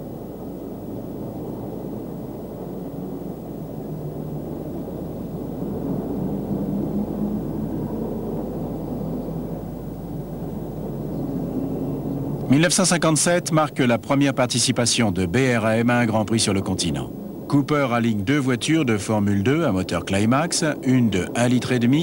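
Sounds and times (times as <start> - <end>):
faint wavering drone: 0.0 - 22.0
muffled engine rumble: 0.0 - 22.0.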